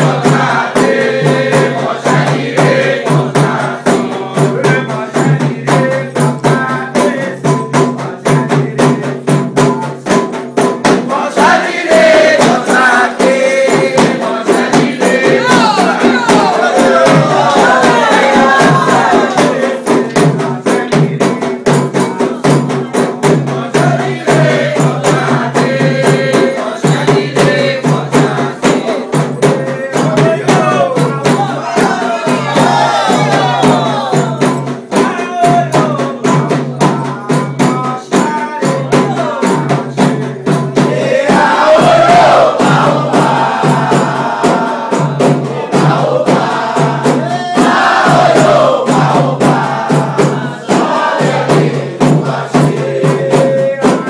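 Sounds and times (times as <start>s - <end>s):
fast dense percussion: 0.0s - 54.0s
voices singing a chant: 0.0s - 54.0s.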